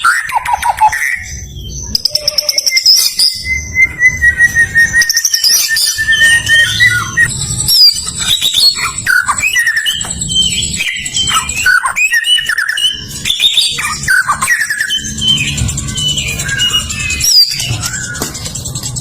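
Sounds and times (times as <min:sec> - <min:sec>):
bird singing whistles and trills: 0:00.0 - 0:19.0.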